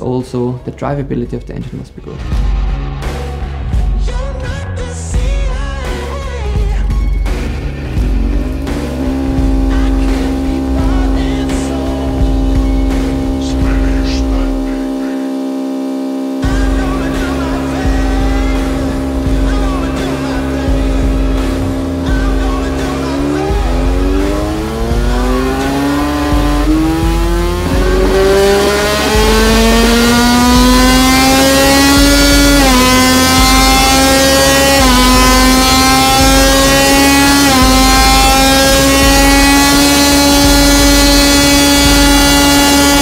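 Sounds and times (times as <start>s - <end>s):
race engine revving: 5.1s - 43.0s.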